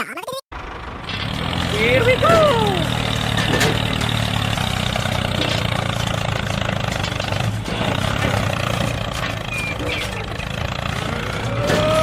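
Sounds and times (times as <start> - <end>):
engine running steadily: 0.6 - 12.0.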